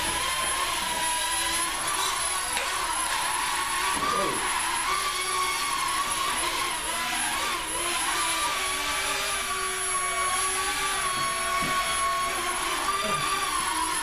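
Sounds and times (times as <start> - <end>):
toy quadcopter propellers whirring: 0.0 - 14.0.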